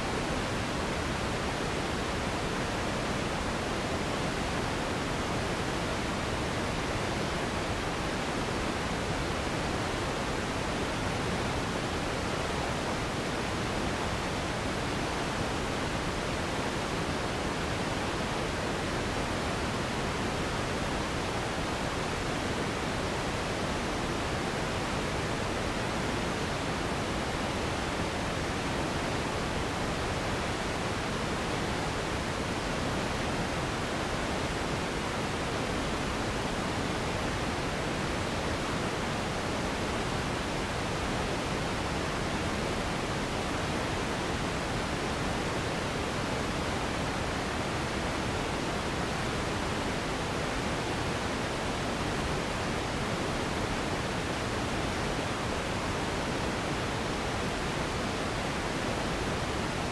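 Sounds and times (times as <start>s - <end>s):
steady sleep noise hiss: 0.0s - 59.9s.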